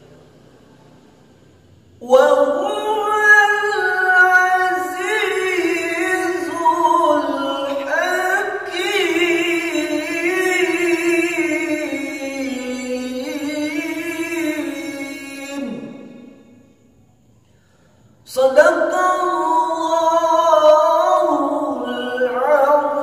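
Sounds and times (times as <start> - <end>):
man reciting melodically: 2.0 - 16.6, 18.2 - 23.0.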